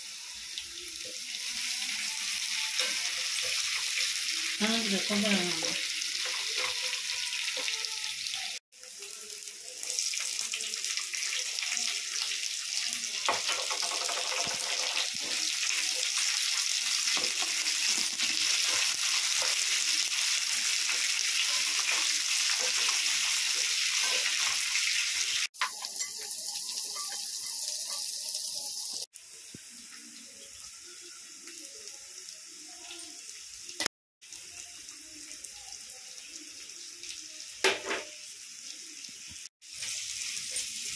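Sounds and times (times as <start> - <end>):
hot oil sizzling in a pan: 0.0 - 40.9.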